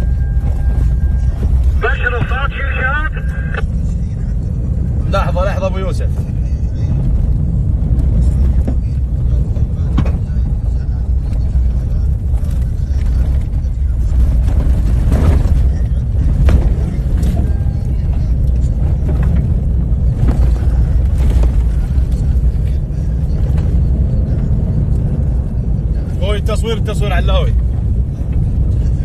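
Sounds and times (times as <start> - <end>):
vehicle driving low rumble: 0.0 - 29.0.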